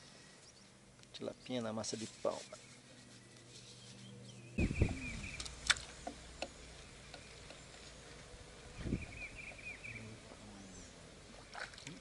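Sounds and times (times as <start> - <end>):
bird chirping: 0.0 - 11.7.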